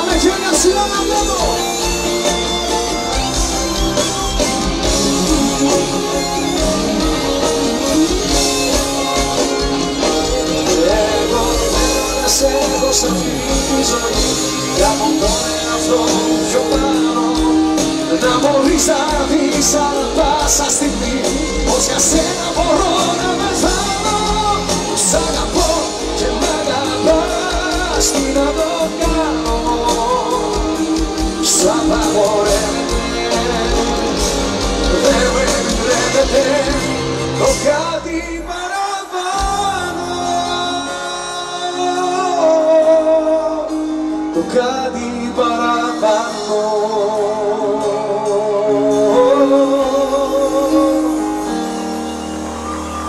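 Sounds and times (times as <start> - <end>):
bass: 0.0 - 53.0
drums: 0.0 - 53.0
live pop band: 0.0 - 53.0
person singing: 0.0 - 53.0.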